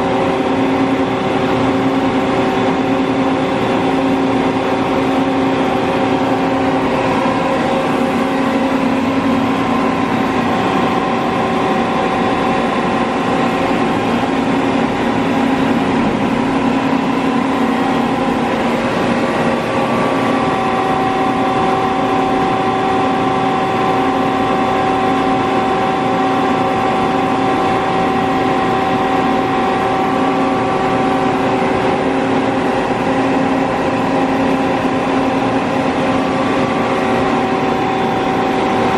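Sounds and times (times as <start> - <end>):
boring mill mechanical hum: 0.0 - 38.9.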